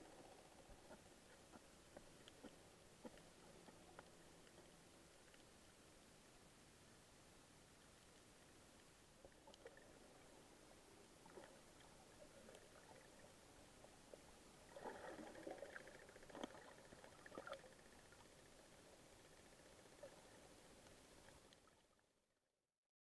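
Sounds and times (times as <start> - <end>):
faint underwater hiss: 0.0 - 22.2.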